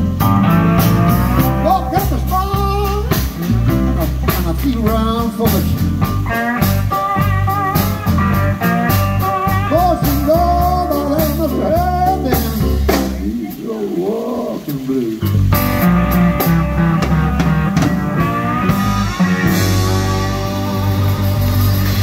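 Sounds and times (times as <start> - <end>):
electric guitar bending notes: 0.0 - 13.6, 14.6 - 22.0
drum kit beat: 0.0 - 14.0, 14.6 - 22.0
keyboard: 0.0 - 22.0
upright bass: 0.0 - 22.0.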